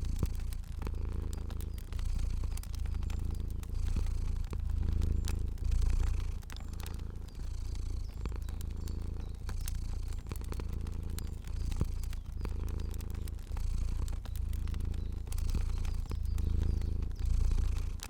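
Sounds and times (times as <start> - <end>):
cat purring: 0.0 - 18.0
wood fire crackling: 0.0 - 18.0.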